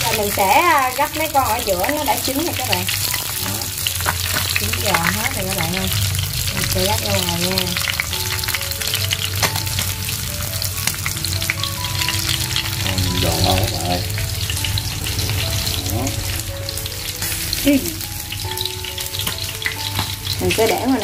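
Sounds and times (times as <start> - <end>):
fish deep-frying in oil: 0.0 - 21.0.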